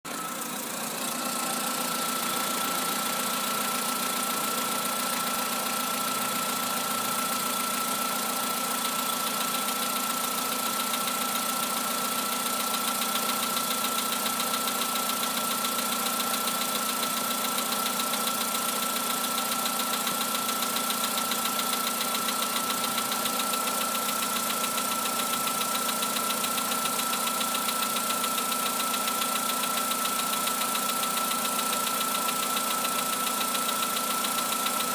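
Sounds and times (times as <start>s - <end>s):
engine with piston knock: 0.2s - 34.9s.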